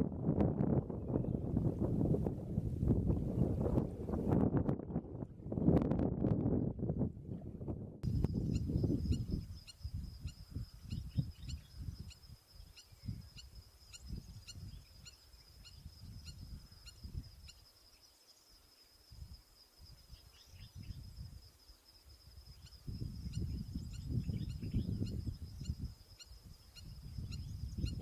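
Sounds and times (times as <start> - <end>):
wind rumbling on microphone: 0.0 - 17.7, 19.1 - 28.0.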